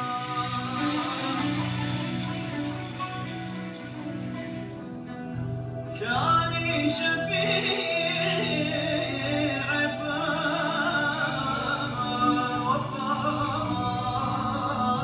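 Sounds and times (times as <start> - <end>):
violin accompaniment: 0.0 - 15.0.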